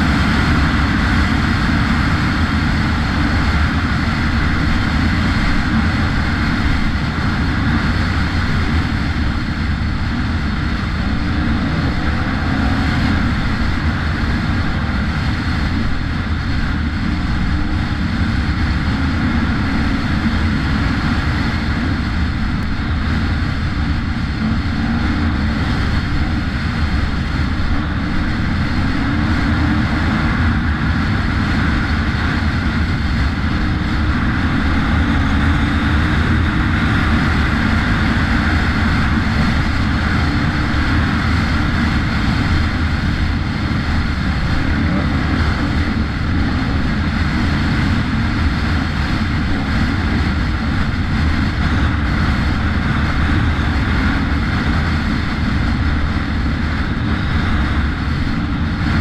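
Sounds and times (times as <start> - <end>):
dirt bike engine running: 0.0 - 59.0
wind rumble on microphone: 0.0 - 59.0.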